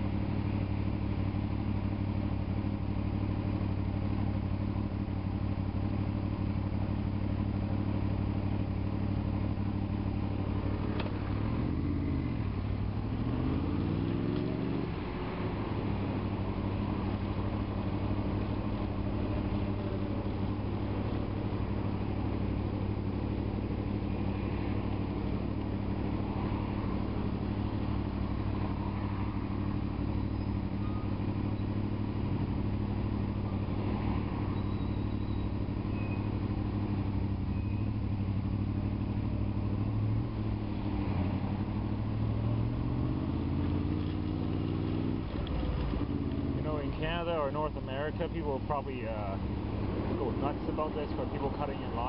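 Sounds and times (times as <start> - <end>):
motorcycle engine idling: 0.0 - 13.8, 14.4 - 40.8, 41.6 - 52.0.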